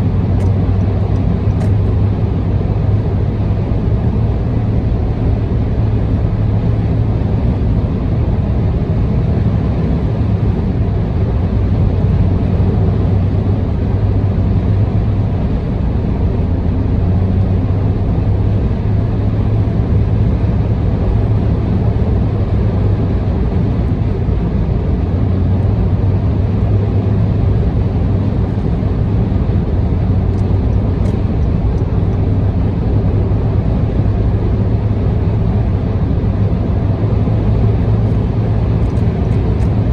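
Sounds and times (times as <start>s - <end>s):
car road noise drone: 0.0s - 39.9s.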